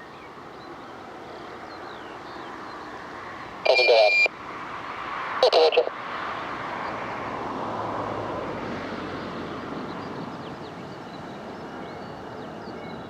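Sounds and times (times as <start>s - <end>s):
distant jet engines rushing: 0.3s - 13.0s.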